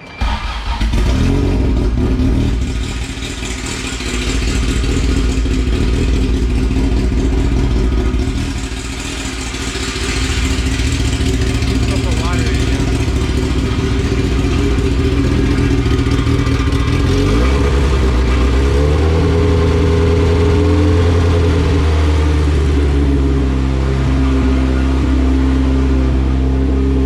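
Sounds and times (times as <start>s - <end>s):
car engine running: 0.2s - 27.0s.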